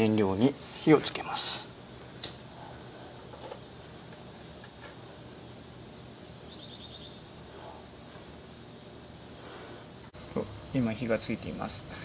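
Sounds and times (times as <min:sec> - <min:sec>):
insects trilling: 0:00.0 - 0:12.0
low outdoor hiss: 0:00.0 - 0:12.0.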